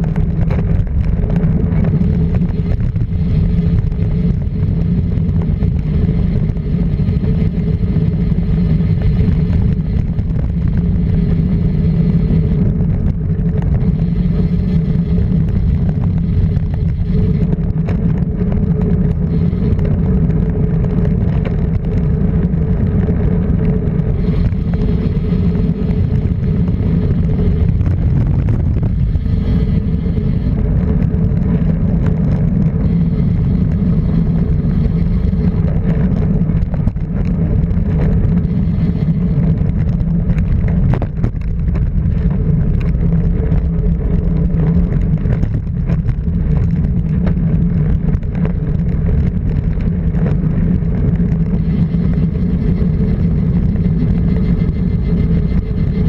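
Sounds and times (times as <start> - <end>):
rally car engine running: 0.0 - 56.0.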